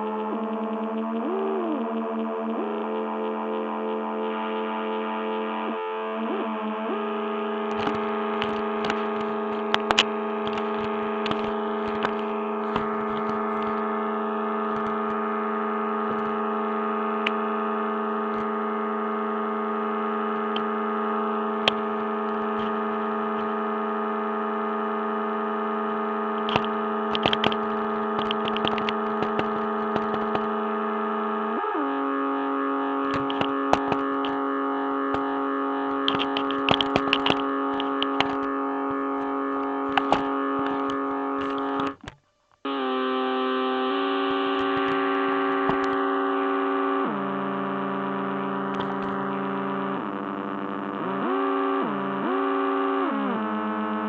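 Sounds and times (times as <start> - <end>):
drone music chord: 0.0 - 42.0, 42.7 - 54.0
distorted crackling clicks: 0.0 - 54.0.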